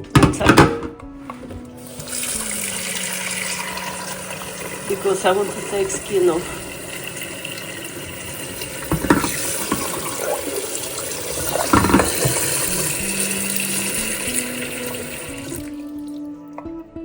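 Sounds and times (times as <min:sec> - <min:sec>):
water running into a pot: 0:01.8 - 0:16.6.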